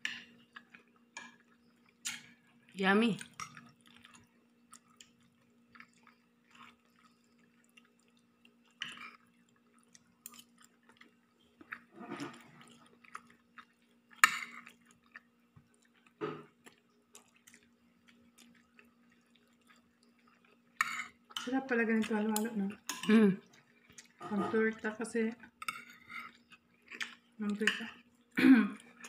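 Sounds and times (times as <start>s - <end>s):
chewing: 3.2s - 24.4s, 25.4s - 29.0s.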